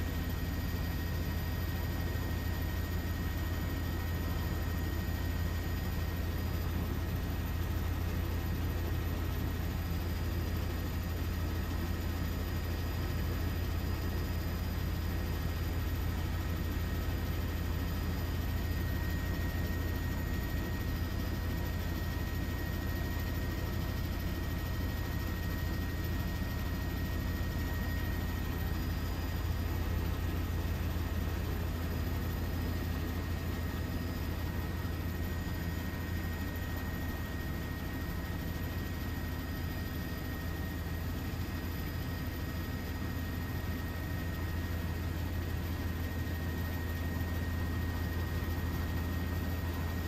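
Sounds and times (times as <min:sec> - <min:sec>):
faint high whine: 0:00.0 - 0:50.0.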